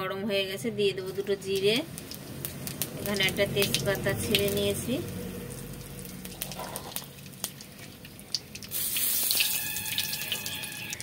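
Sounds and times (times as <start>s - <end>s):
spices crackling in hot oil: 0.4s - 11.0s.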